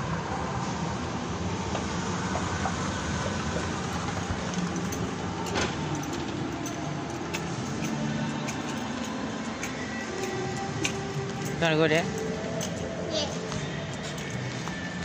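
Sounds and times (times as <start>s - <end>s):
low rumbling mall background: 0.0s - 15.0s.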